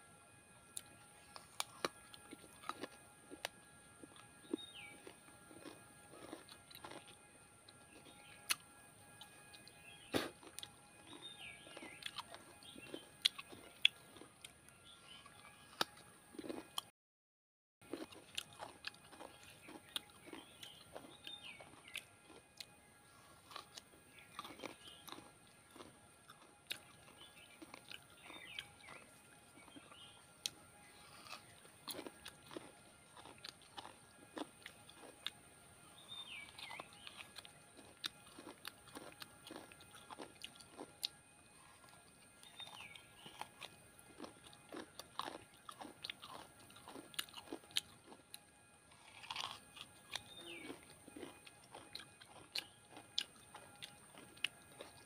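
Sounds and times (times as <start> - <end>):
crunching and chewing coconut: 0.7 - 16.9, 17.8 - 55.0.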